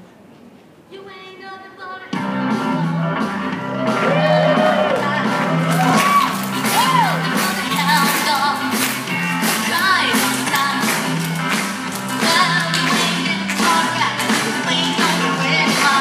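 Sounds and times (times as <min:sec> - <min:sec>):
rock and roll music: 0:02.2 - 0:16.0.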